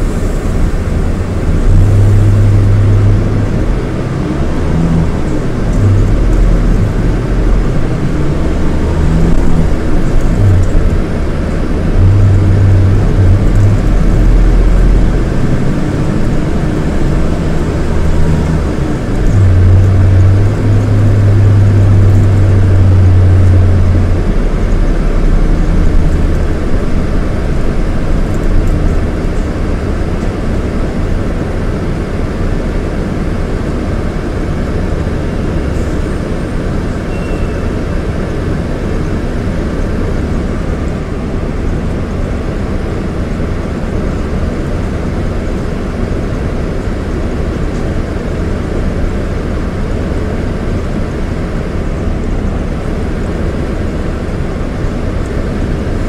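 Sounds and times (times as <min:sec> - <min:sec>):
diesel engine droning: 0:00.0 - 0:56.0
road noise rumble: 0:00.0 - 0:56.0.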